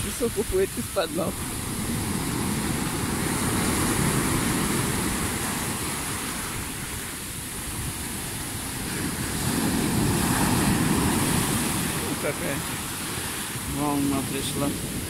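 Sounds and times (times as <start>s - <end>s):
surf breaking on sand beach: 0.0s - 15.0s.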